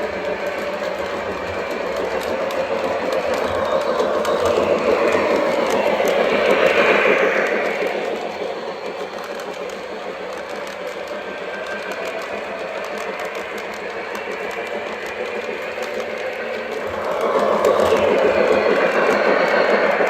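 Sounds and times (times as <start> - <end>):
model train wheels clattering: 0.0 - 20.0.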